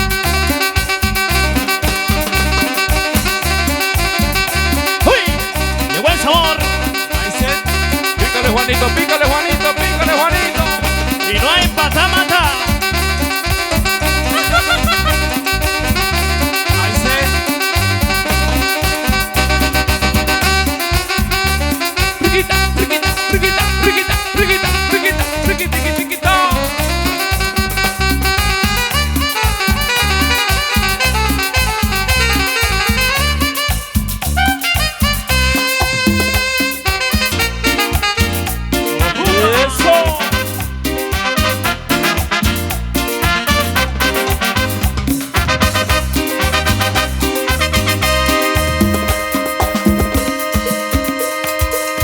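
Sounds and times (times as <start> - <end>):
keyboards: 0.0 - 52.0
percussion: 0.0 - 52.0
repeating bass beat: 0.0 - 52.0.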